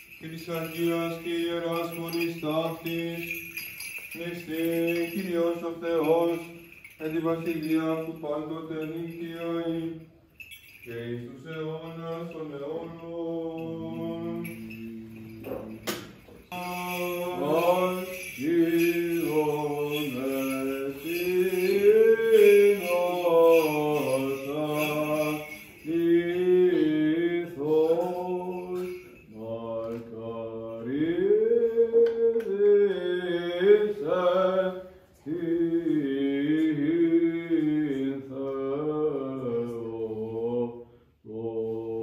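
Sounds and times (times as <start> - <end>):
man singing liturgical chant: 0.0 - 10.2, 10.8 - 15.8, 16.5 - 42.0.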